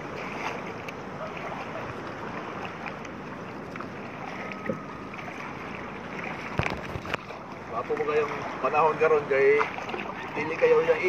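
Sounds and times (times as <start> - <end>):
water splashing around paddled canoe: 0.0 - 11.0.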